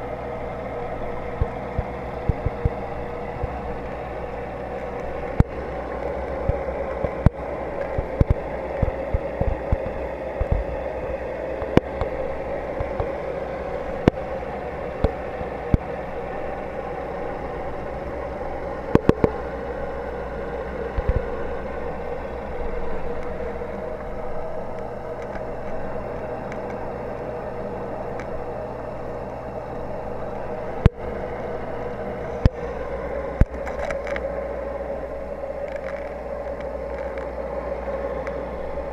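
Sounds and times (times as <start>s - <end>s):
aquarium equipment hum: 0.0s - 38.9s.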